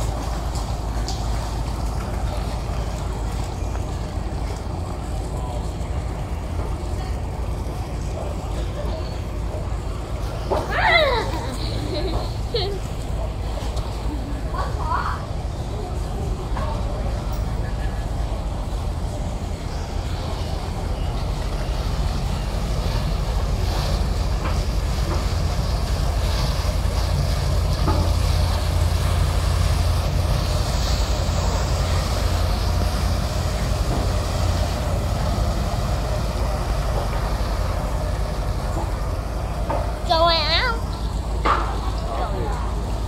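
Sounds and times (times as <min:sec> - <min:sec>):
boat engine rumbling: 0:00.0 - 0:43.0.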